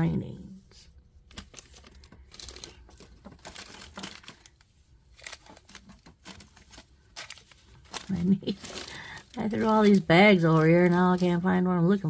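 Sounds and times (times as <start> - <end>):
plastic bags crinkling: 1.1 - 11.6.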